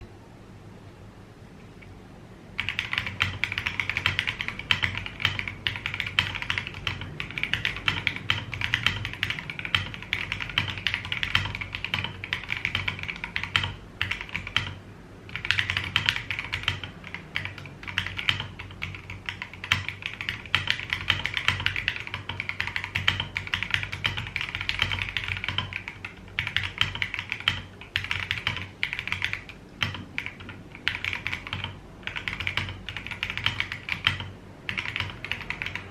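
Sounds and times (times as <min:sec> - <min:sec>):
fast mechanical keyboard typing: 0:02.6 - 0:35.9.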